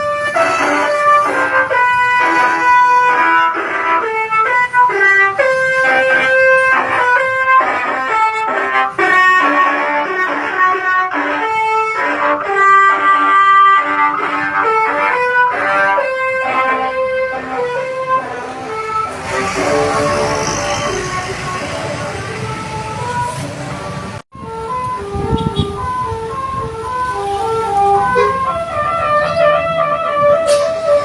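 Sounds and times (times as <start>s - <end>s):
musical bus horn playing a tune: 0.0s - 31.0s.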